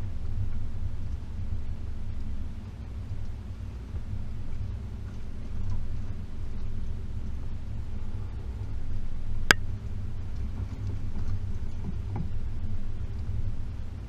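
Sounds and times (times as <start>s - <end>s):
car engine running low: 0.0s - 14.0s.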